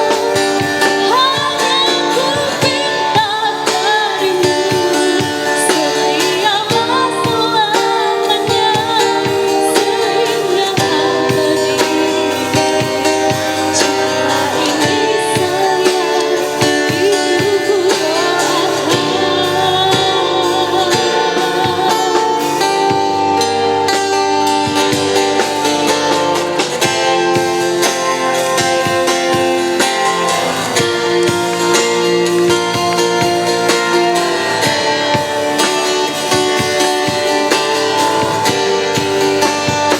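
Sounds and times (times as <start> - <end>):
guitar accompaniment: 0.0 - 39.9
woman singing: 0.0 - 39.9.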